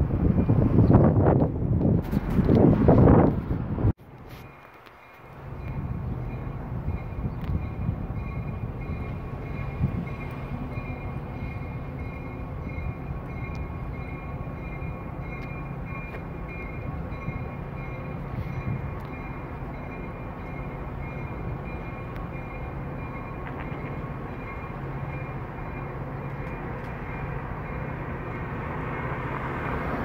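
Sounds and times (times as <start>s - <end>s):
train rumbling on tracks: 0.0s - 30.0s.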